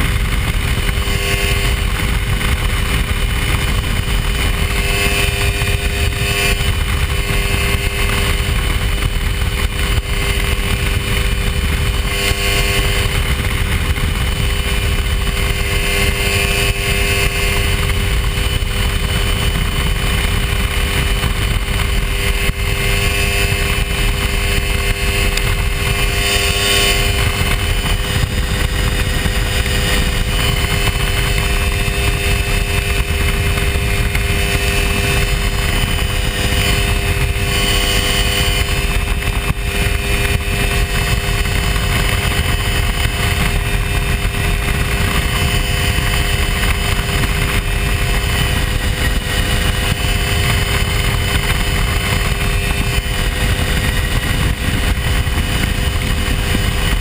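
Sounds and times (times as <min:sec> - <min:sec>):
light airplane engine drone: 0:00.0 - 0:57.0
wind rushing: 0:00.0 - 0:57.0.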